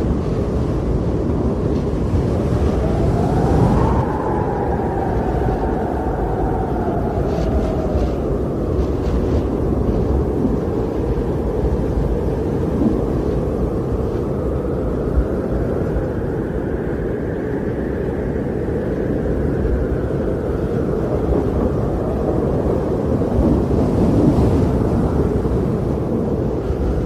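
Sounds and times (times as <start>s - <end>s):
wind blowing with deep rumble: 0.0s - 27.0s.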